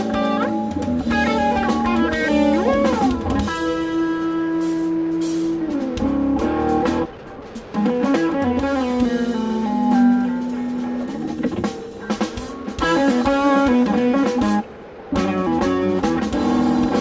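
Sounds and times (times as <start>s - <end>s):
drum kit: 0.0s - 17.0s
electric guitar lead: 0.0s - 17.0s.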